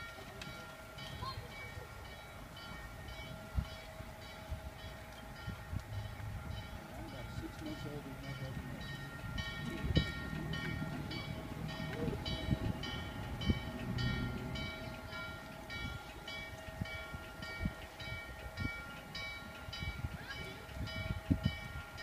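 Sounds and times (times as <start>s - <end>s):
locomotive bell ringing: 0.0s - 22.0s
low train rumble: 0.0s - 22.0s.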